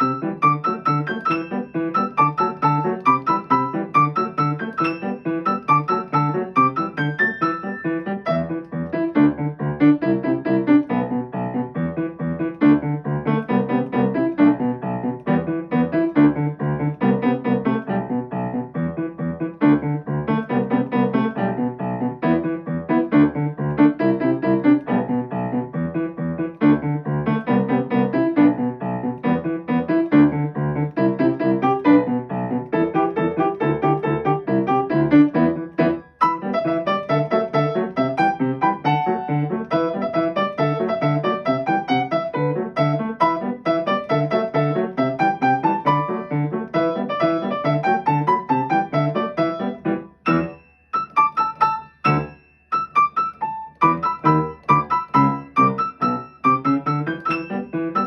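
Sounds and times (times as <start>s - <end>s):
solo piano playing: 0.0s - 58.0s.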